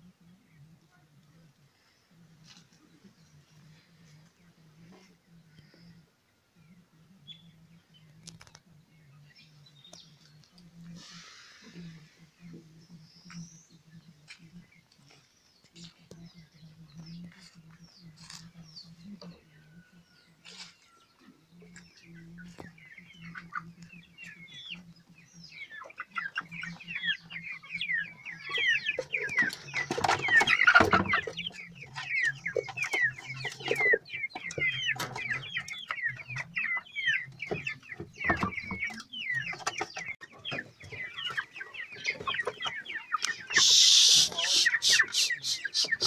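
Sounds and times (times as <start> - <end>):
hens clucking and squawking: 0.0 - 46.0.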